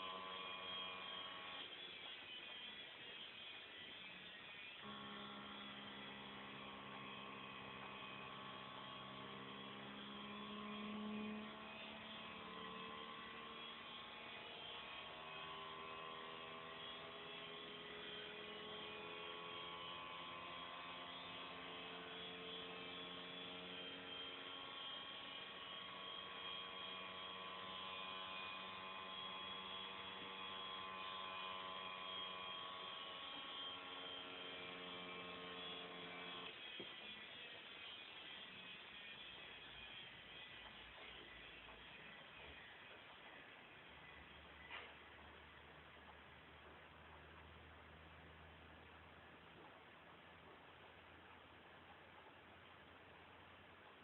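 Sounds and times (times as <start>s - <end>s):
electric motor humming: 0.0s - 44.9s.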